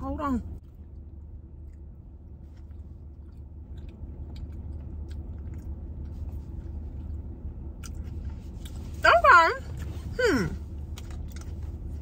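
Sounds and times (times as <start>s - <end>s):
steady low hum: 0.0s - 12.0s
person chewing food: 0.6s - 9.0s, 9.7s - 12.0s.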